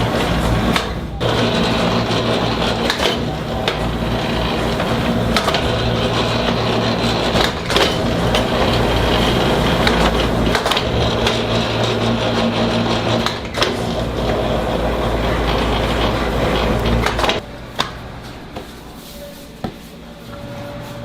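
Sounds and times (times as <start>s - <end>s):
machine humming: 0.0s - 18.5s.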